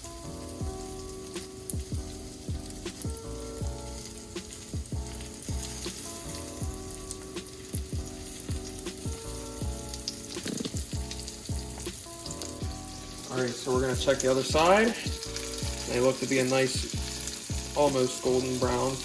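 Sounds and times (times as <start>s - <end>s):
background music with beat: 0.0s - 19.0s
fish sizzling in oil: 0.0s - 19.0s.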